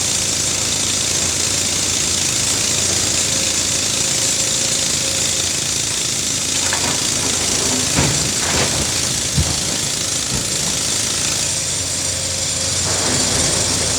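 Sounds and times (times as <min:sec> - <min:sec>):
excavator diesel engine pulsing: 0:00.0 - 0:13.9.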